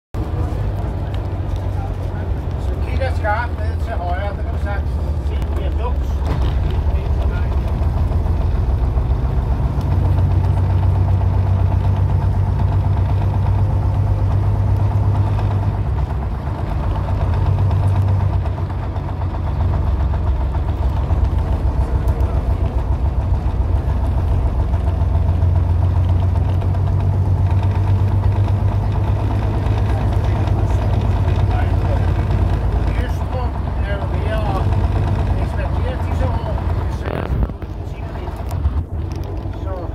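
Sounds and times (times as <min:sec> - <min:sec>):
bus engine droning: 0:00.2 - 0:39.9.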